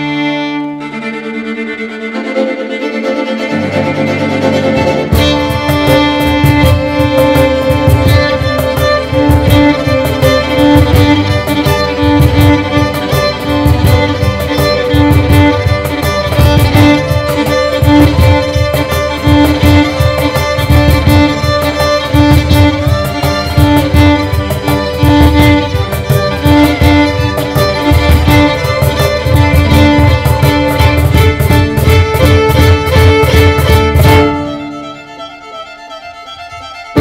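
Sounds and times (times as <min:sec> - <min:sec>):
pulsing repeated string note: 0:00.0 - 0:35.8
cajon beating a rhythm: 0:00.0 - 0:37.0
string ensemble playing: 0:00.0 - 0:37.0.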